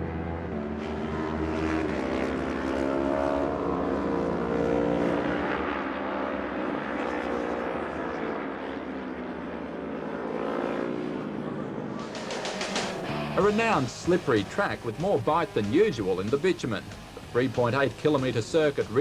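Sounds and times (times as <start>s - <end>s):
racing engines at high revs: 0.0s - 19.0s.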